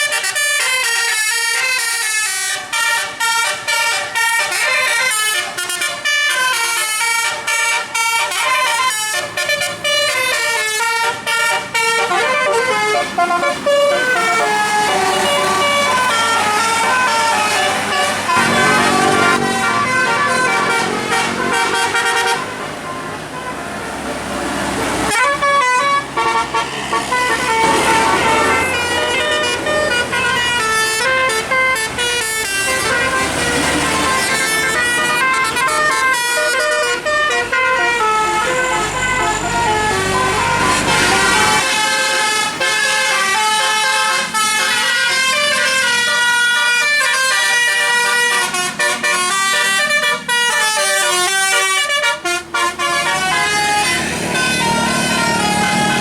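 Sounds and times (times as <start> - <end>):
musical bus air horns: 0.0 - 56.0.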